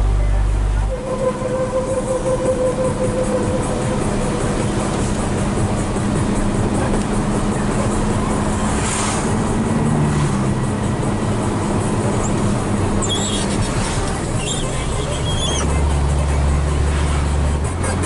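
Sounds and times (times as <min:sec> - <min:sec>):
road noise: 0:00.0 - 0:18.0
truck diesel engine running: 0:00.0 - 0:18.0.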